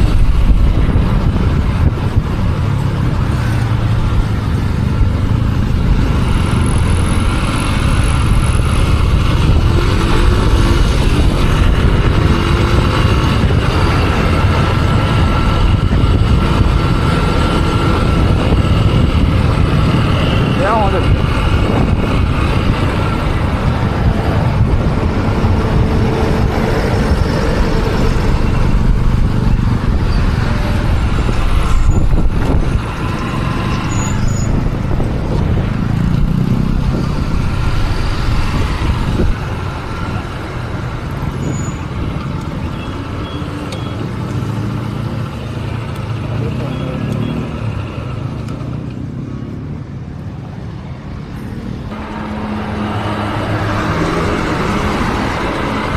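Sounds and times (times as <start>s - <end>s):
motorcycle engine: 0.0s - 55.9s
passing vehicles: 0.0s - 55.9s.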